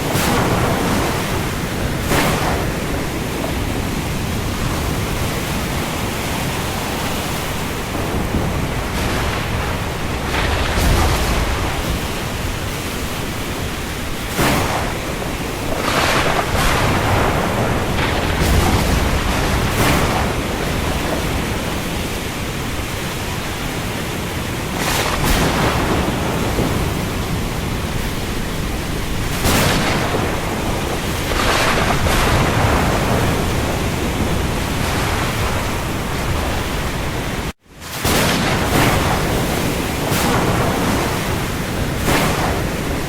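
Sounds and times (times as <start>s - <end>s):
heavy rain on sea: 0.0s - 43.0s
surges of wash: 0.0s - 43.0s.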